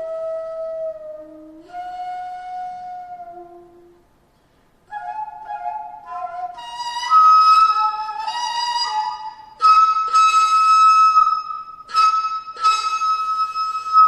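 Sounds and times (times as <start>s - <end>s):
bamboo flute solo: 0.0s - 4.1s, 4.8s - 14.0s.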